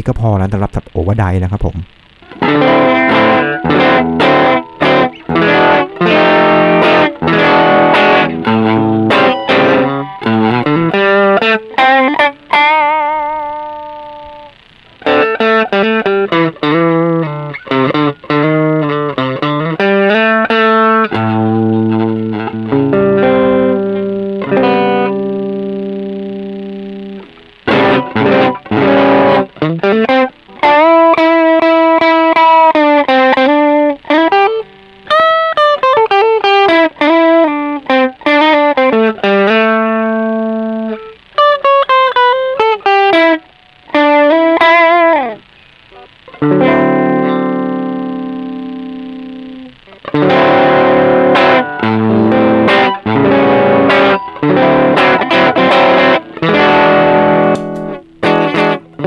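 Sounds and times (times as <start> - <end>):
overdriven electric guitar: 1.6 - 59.0.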